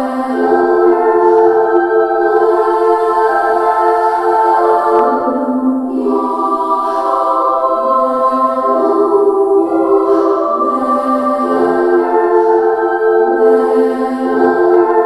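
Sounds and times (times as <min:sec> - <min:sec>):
slow choir-like music: 0:00.0 - 0:15.0.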